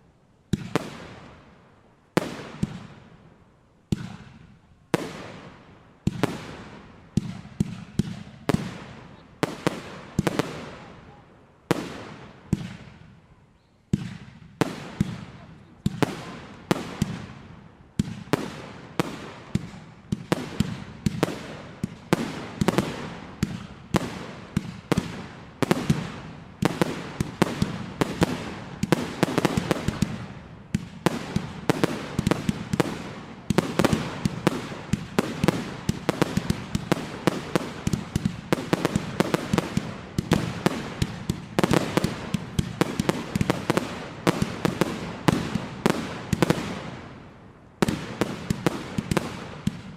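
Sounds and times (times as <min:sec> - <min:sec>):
fireworks bangs and crackles: 0:00.0 - 0:03.3, 0:03.9 - 0:13.2, 0:13.9 - 0:49.9.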